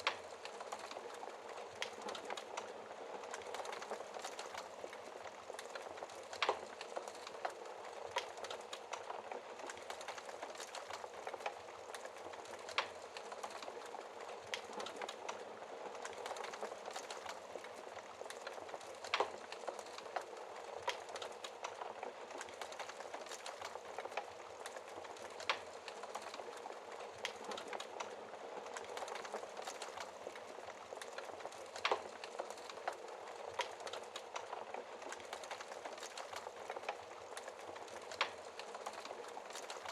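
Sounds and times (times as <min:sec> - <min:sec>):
fire crackling and popping: 0:00.0 - 0:39.9
fire flames hissing: 0:00.0 - 0:39.9.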